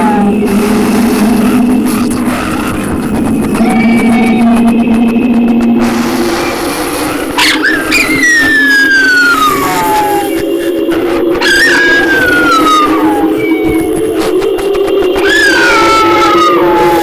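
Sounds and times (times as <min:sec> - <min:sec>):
high descending howl-like wails: 0:00.0 - 0:02.1, 0:03.4 - 0:17.0
low eerie drone: 0:00.0 - 0:17.0.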